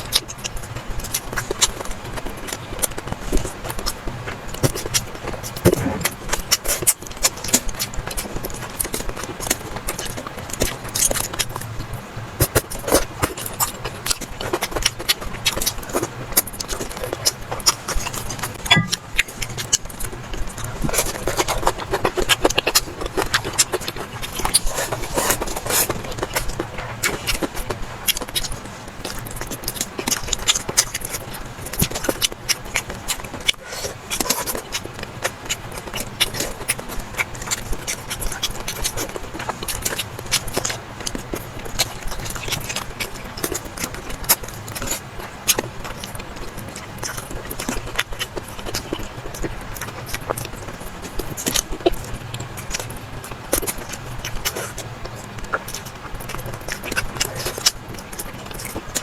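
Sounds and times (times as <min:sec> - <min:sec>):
chewing and mouth smacks: 0:04.6 - 0:06.3, 0:12.4 - 0:59.0.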